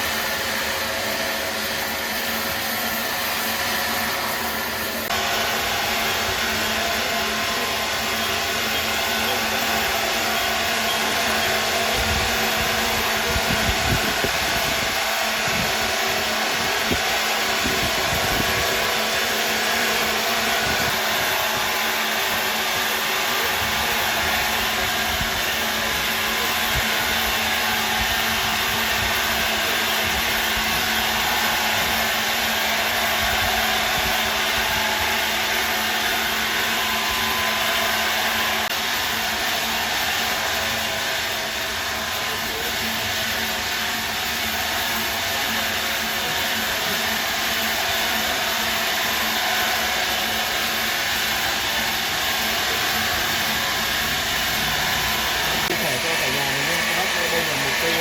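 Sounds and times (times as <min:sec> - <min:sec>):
machine whirring and hissing: 0:00.0 - 0:58.0.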